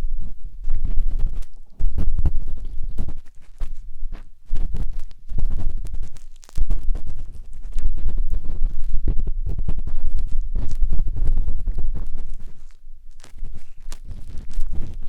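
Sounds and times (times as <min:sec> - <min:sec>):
matchstick scraping microphone: 0:00.0 - 0:15.0.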